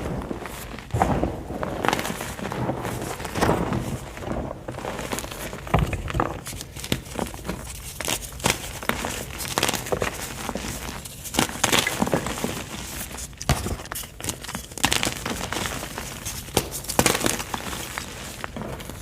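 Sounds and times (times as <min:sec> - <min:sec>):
chalk crunching and crumbling: 0:00.0 - 0:19.0.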